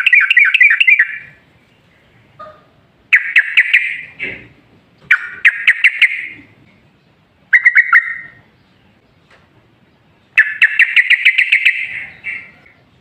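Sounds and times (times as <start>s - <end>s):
bulbul singing: 0.0s - 13.0s.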